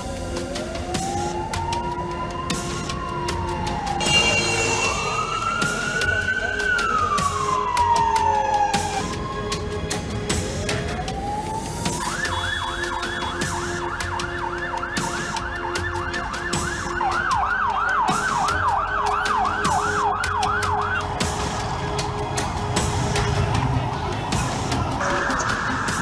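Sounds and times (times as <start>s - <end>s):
emergency vehicle siren wailing and yelping: 0.0s - 26.0s.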